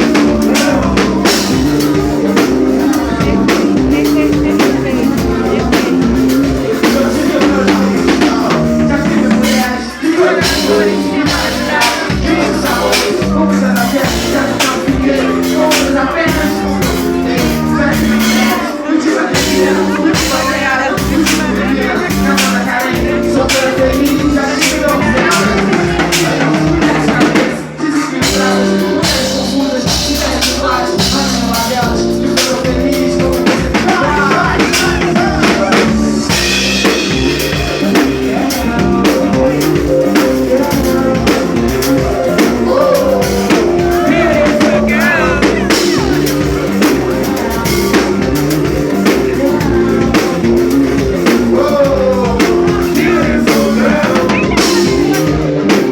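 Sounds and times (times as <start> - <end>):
loud music with drums and singing: 0.0 - 55.9.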